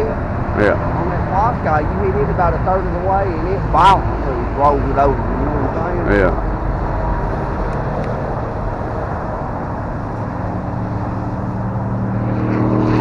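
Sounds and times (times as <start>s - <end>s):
model plane propeller buzzing: 0.0s - 13.0s.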